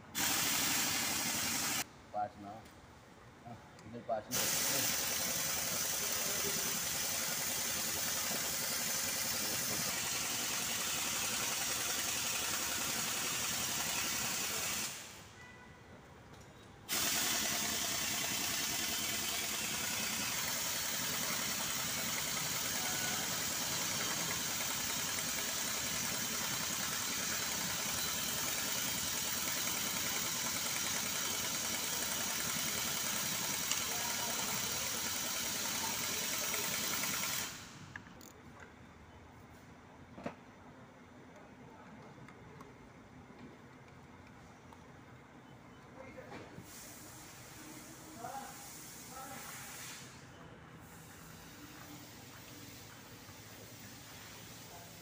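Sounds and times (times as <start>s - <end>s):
workshop background hiss: 0.0s - 44.8s, 45.4s - 55.0s.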